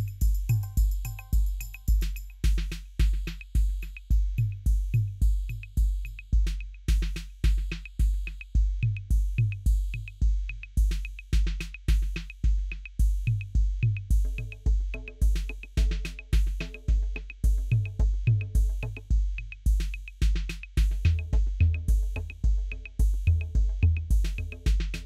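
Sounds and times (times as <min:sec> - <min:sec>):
music with heavy drum beat: 0:00.0 - 0:25.0.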